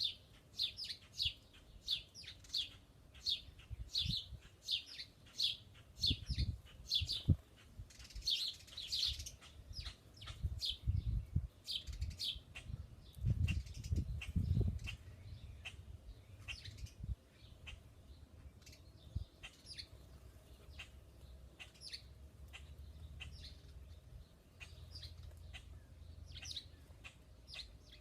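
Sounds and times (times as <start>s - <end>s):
small songbirds chirping: 0.0s - 28.0s.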